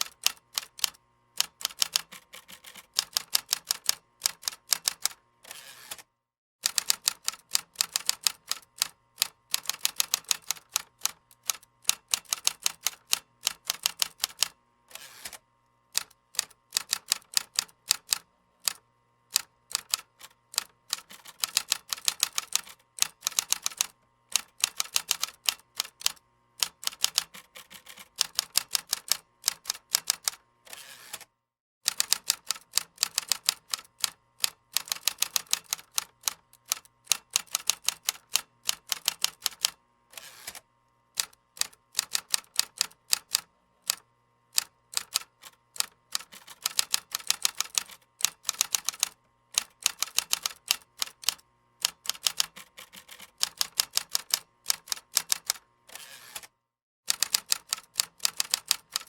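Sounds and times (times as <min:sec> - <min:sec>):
computer keyboard typing: 0:00.0 - 0:05.2, 0:06.6 - 0:14.6, 0:16.0 - 0:30.4, 0:31.9 - 0:39.8, 0:41.2 - 0:44.0, 0:44.6 - 0:55.6, 0:57.1 - 0:59.0.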